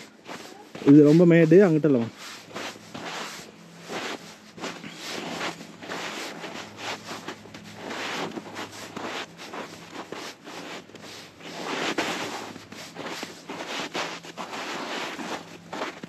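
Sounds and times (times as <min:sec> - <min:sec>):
footsteps in snow: 0:00.0 - 0:16.0.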